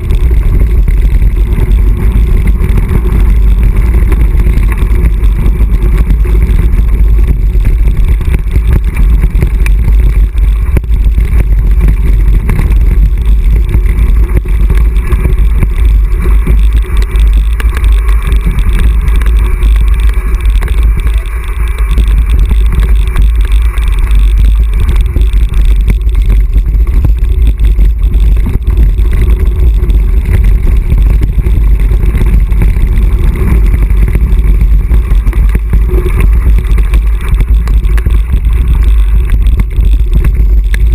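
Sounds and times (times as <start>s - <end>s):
bike tyres crunching on gravel: 0.0s - 40.9s
wind buffeting microphone: 0.0s - 40.9s.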